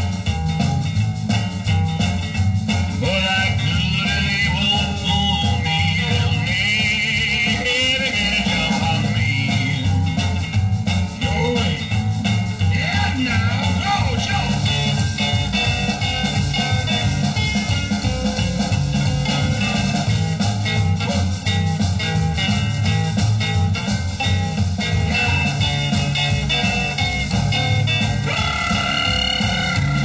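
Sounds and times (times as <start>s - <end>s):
rockabilly record with guitar: 0.0s - 30.0s.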